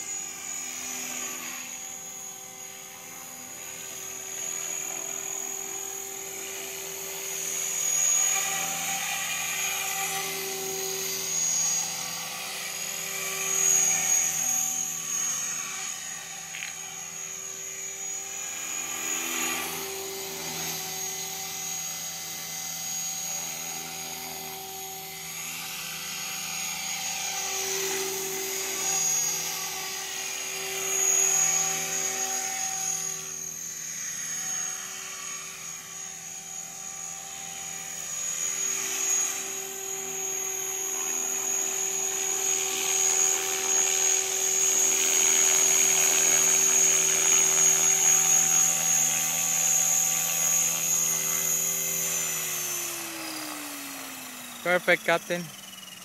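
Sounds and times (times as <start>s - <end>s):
rc helicopter rotor hum and whine: 0.0s - 56.0s.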